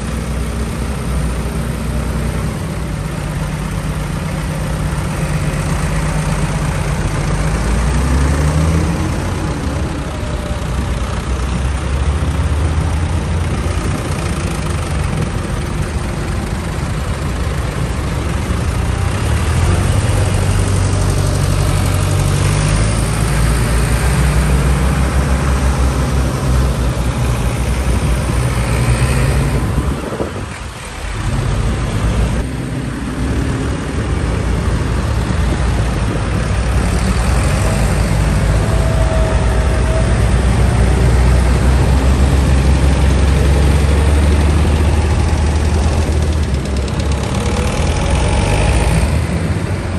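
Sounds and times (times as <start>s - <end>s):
tractor engines rumbling: 0.0s - 49.9s.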